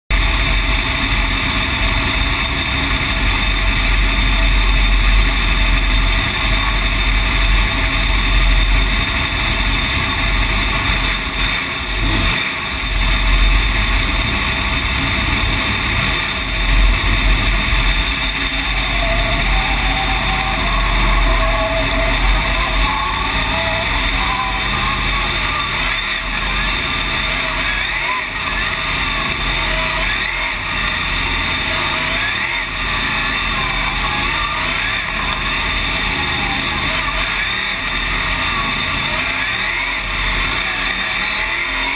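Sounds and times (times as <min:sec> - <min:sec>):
race car engine running: 0:00.0 - 0:41.9
surrounding race car engines: 0:00.1 - 0:41.9.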